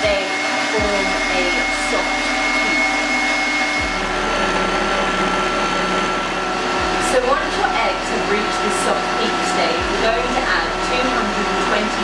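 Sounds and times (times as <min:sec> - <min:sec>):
stand mixer whisking: 0:00.0 - 0:12.0.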